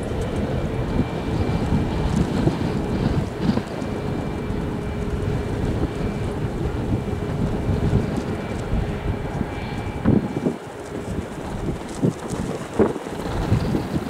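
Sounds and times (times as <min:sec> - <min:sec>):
jet engines low rumble: 0:00.0 - 0:14.0
wind buffeting microphone: 0:00.0 - 0:14.0.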